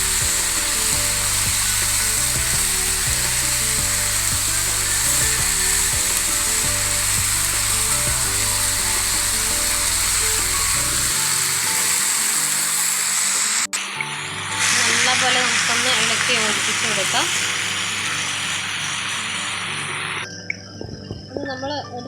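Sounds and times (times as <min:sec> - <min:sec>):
food sizzling in hot oil: 0:00.0 - 0:20.3
soft background music: 0:00.0 - 0:22.0.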